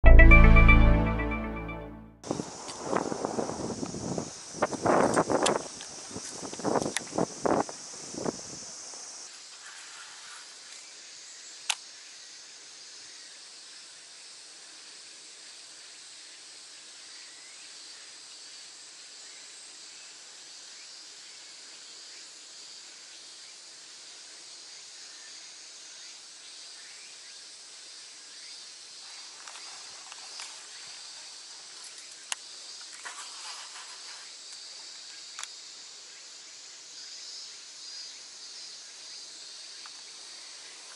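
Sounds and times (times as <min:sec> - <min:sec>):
insects chorus: 0:02.3 - 0:40.9.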